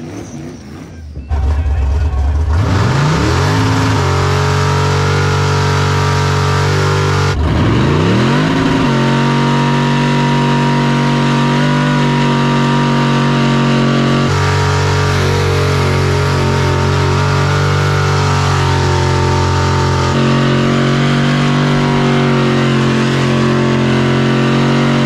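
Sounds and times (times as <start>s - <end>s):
car engine revving at high rpm: 1.4s - 25.0s.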